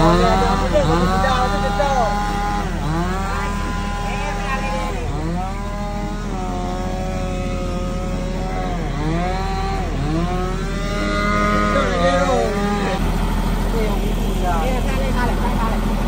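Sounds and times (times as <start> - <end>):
diesel engines running: 0.0 - 16.0
engine revs dipping and recovering: 0.0 - 16.0
low drone: 0.0 - 16.0.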